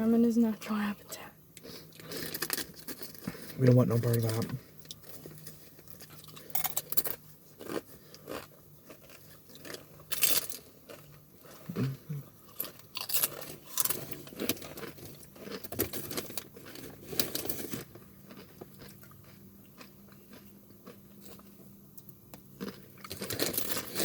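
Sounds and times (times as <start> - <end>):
person chewing crunchy chips: 1.6 - 24.0.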